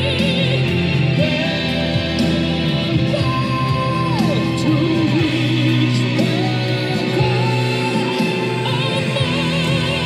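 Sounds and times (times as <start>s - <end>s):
rock band with guitar: 0.0s - 10.0s.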